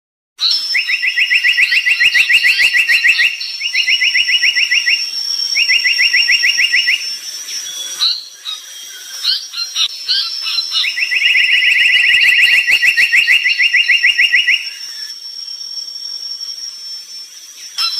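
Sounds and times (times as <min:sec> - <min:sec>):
high chirps: 0:00.4 - 0:17.9
steady high-pitched tone: 0:01.8 - 0:17.9.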